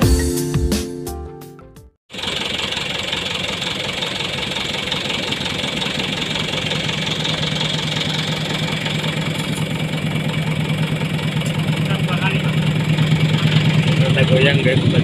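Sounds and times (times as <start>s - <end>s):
diesel truck engine idling: 2.1s - 15.0s.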